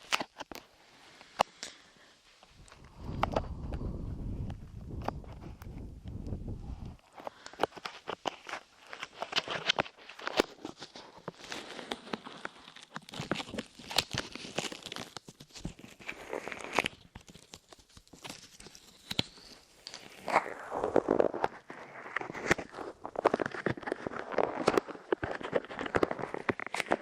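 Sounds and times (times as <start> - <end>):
sticky clay crackling on microphone: 2.4 - 27.0.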